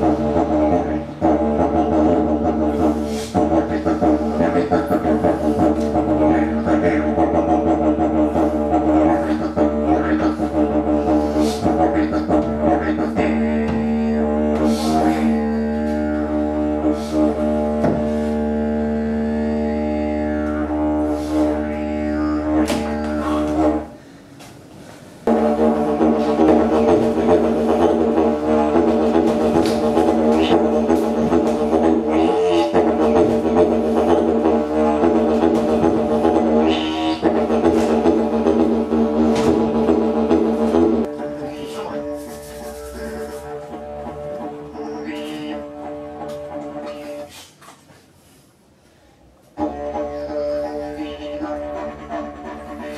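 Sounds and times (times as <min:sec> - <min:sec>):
didgeridoo drone: 0:00.0 - 0:24.0, 0:25.2 - 0:47.5, 0:49.5 - 0:52.9.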